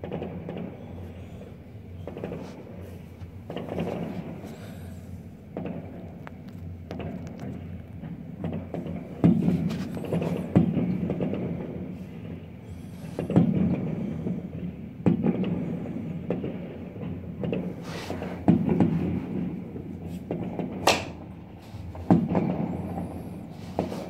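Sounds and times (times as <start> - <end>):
fireworks shells booming: 0.0 - 24.0.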